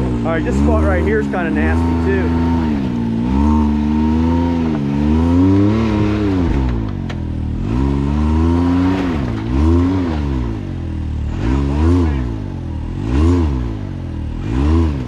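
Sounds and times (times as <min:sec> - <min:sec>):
utility vehicle engine revving: 0:00.0 - 0:15.0.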